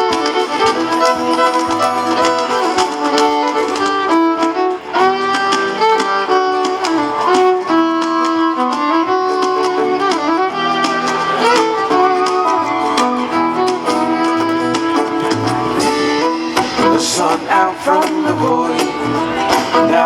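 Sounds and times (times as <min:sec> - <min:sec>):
acoustic band playing: 0:00.0 - 0:20.0
fiddle melody: 0:00.0 - 0:20.0.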